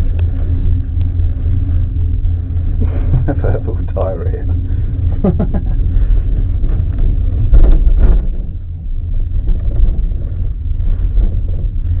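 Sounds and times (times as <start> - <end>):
cable car cabin rumble: 0.0 - 12.0.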